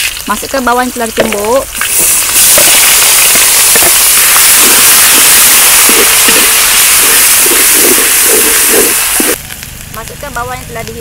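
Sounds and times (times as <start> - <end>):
shallots sizzling in hot oil: 0.0 - 11.0.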